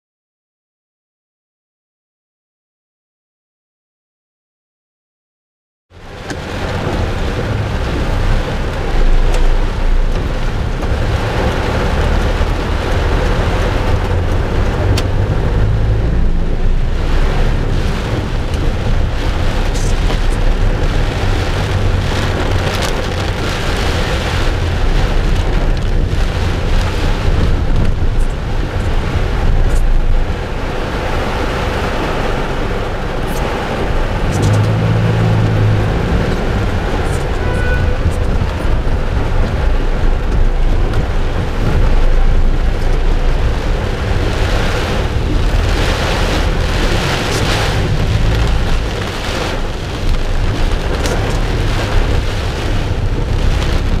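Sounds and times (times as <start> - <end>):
heavy rain pouring: 5.9 - 54.0
low rumble: 5.9 - 54.0.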